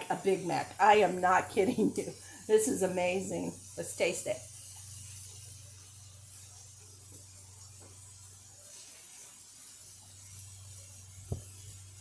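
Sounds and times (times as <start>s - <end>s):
faint hiss: 0.0s - 12.0s
low electrical hum: 0.0s - 12.0s.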